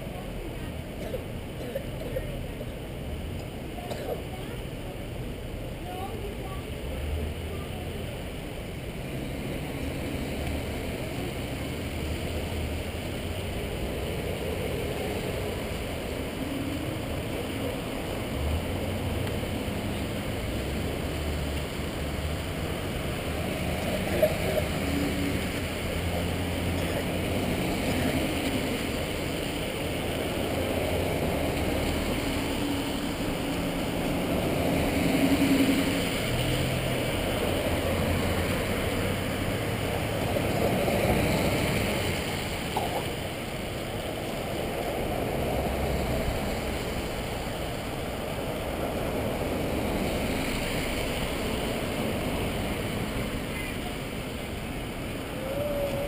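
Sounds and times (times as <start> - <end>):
vehicles driving slowly past: 0.0 - 56.0.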